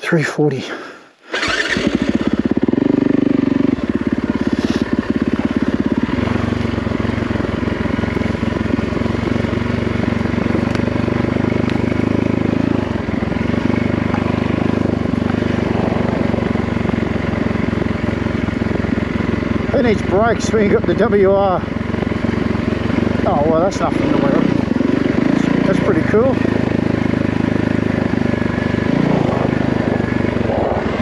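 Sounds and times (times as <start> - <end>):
dirt bike engine running: 1.3 - 31.0.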